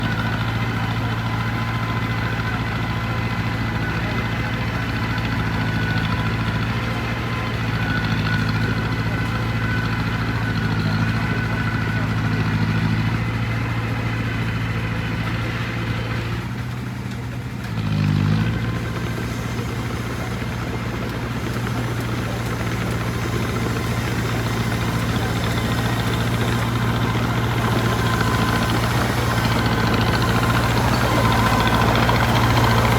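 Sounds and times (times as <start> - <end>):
heavy machine engine running: 0.0 - 32.9.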